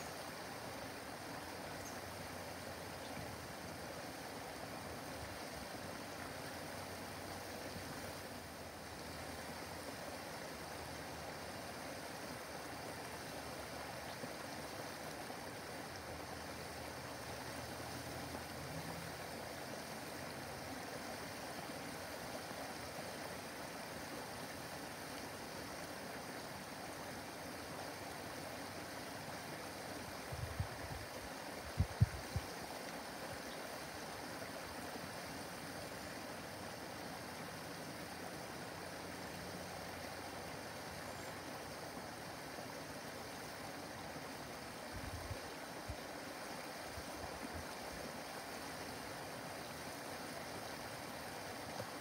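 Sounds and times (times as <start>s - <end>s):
waterfall splashing over rocks: 0.0s - 52.0s.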